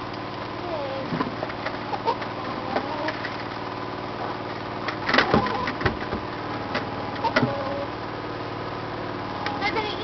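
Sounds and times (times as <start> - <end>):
chickens calling: 0.0 - 10.0
engine-like hum: 0.0 - 10.0.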